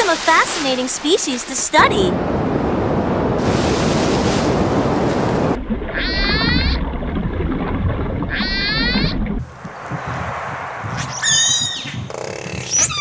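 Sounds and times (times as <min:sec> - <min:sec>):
rushing water and surf: 0:00.0 - 0:08.7, 0:09.3 - 0:12.7.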